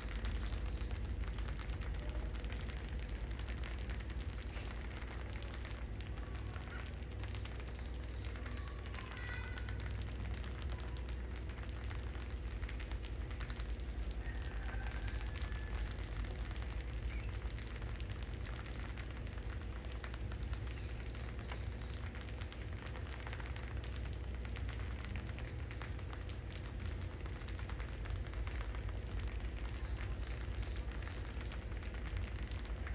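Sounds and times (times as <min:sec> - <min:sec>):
steady low hum: 0:00.0 - 0:32.9
rats scrabbling on tiled floor: 0:00.1 - 0:32.9.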